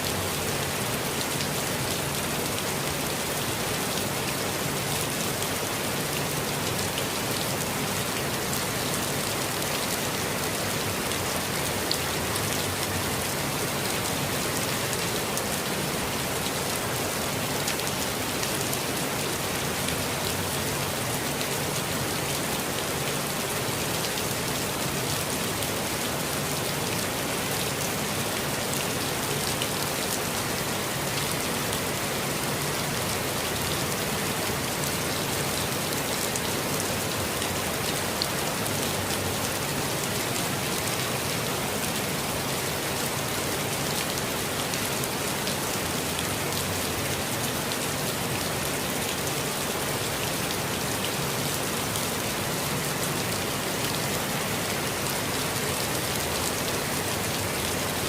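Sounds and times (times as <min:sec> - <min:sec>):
rain hissing in forest: 0:00.0 - 0:58.0.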